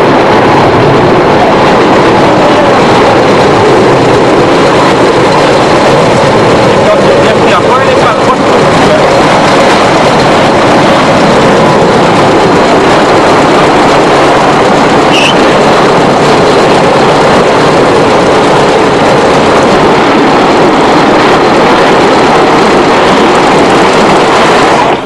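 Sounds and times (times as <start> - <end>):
train running on track: 0.0 - 25.0.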